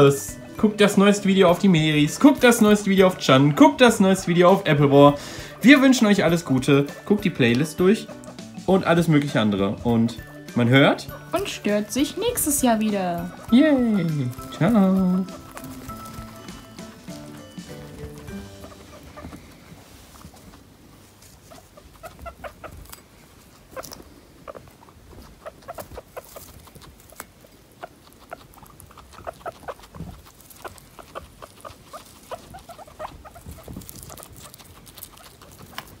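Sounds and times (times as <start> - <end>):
guinea pigs chewing dry herbs: 0.0 - 36.0.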